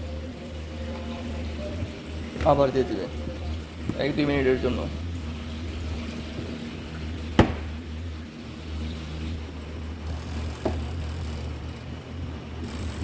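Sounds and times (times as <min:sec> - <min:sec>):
spin dryer humming: 0:00.0 - 0:13.0.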